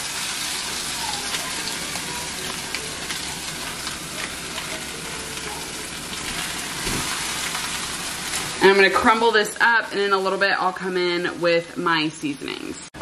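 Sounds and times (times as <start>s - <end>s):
vegetables sizzling in a pan: 0.0s - 12.9s.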